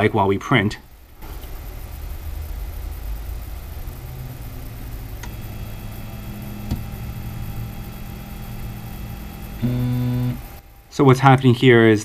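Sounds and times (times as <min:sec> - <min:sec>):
printer humming: 0:01.0 - 0:11.9.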